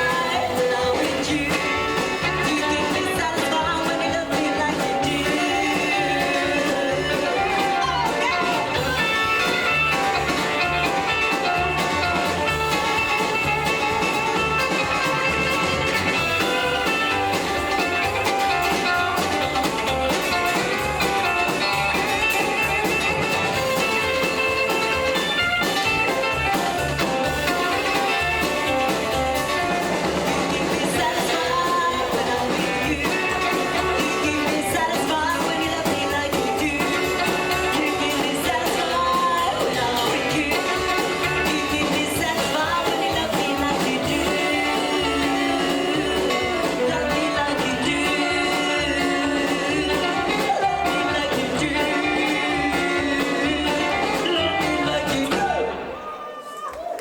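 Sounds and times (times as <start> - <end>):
rockabilly band playing: 0.0 - 57.0.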